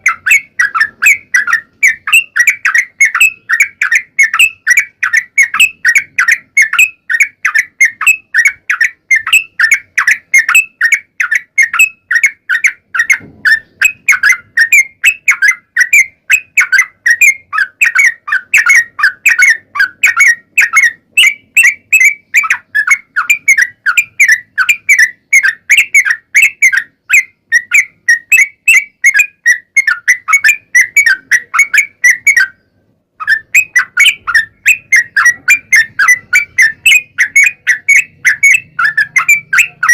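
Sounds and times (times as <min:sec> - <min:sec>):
bird chattering whistled song: 0:00.0 - 0:39.9.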